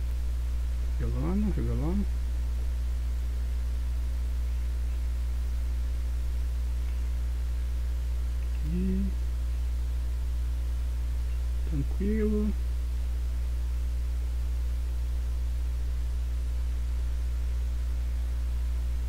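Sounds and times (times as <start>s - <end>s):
higher steady hum: 0.0s - 19.0s
low mains hum: 0.0s - 19.0s.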